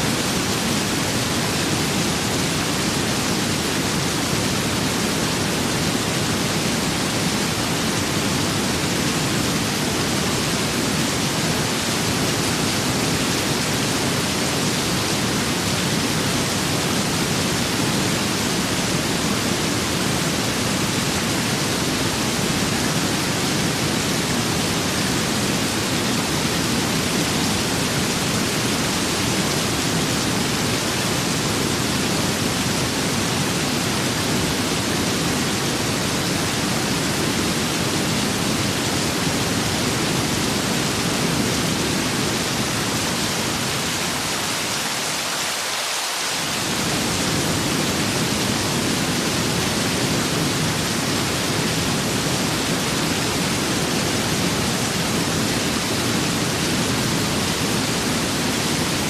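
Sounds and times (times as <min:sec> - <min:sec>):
steady rain: 0:00.0 - 0:59.0
wind: 0:00.0 - 0:59.0.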